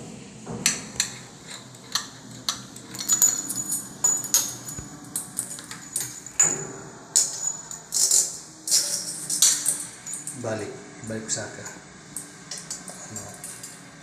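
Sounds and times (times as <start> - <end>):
metal shower hose clinking: 0.6 - 10.6, 11.3 - 14.0.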